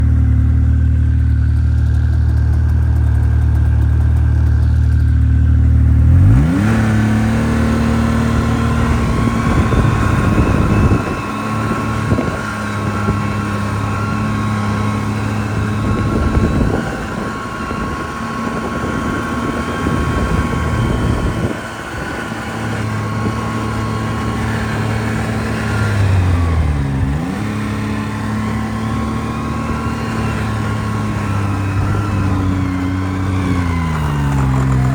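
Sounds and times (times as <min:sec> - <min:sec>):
snowmobile engine: 0:00.0 - 0:34.9.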